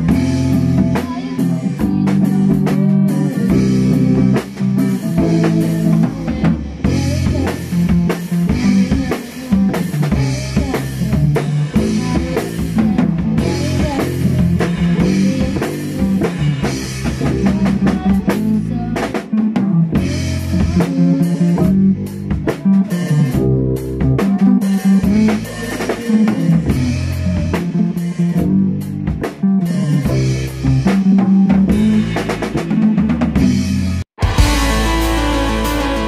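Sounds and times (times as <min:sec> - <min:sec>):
drum kit groove: 0:00.0 - 0:36.0
electric bass line: 0:00.0 - 0:36.0.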